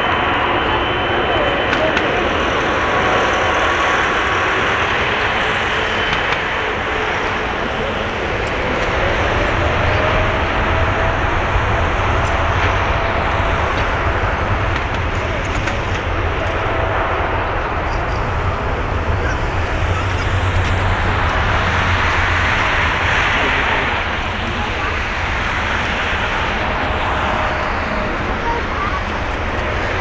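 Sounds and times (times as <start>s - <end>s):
faint jet engine whine: 0.0s - 30.0s
jet engines roaring: 0.0s - 30.0s.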